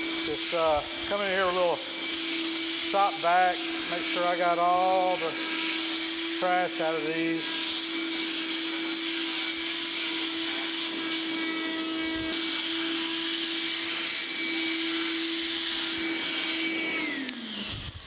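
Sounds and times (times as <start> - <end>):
shop vacuum running: 0.0 - 18.0.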